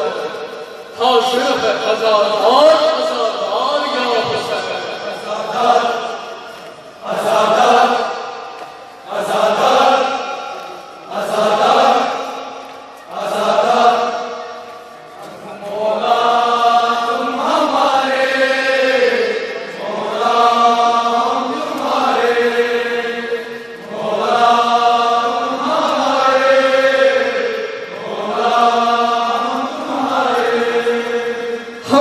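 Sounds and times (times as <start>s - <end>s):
men chanting a lament: 0.0s - 14.6s, 15.2s - 32.0s.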